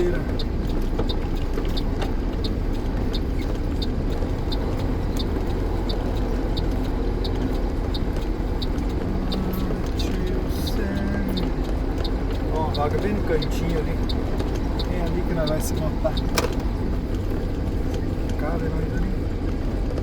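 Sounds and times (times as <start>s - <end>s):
diesel engine rumble: 0.0s - 20.0s
turn signal ticking: 0.0s - 20.0s.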